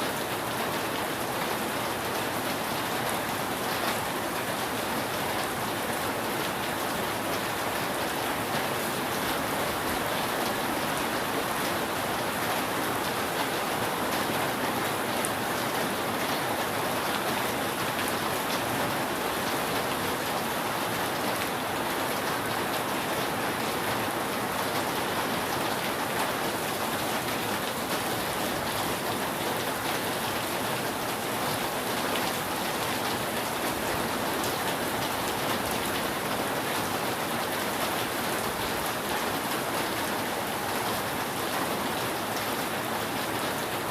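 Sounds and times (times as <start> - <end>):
rain falling on a roof: 0.0 - 43.9.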